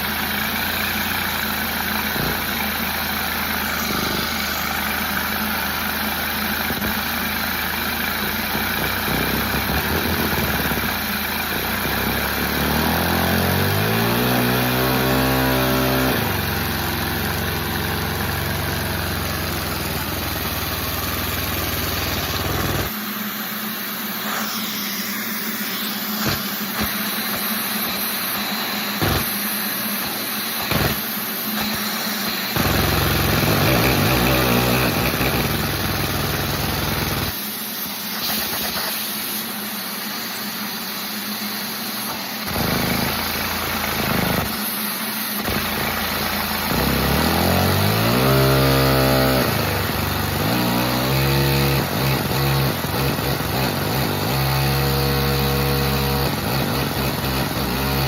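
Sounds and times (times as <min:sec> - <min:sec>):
small gasoline engine revving: 0:00.0 - 0:23.0, 0:24.2 - 0:37.4, 0:42.0 - 0:58.0.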